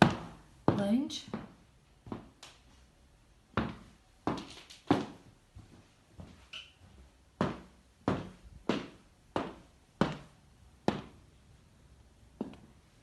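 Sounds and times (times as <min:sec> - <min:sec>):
footsteps walking: 0:00.0 - 0:11.2, 0:12.4 - 0:12.8.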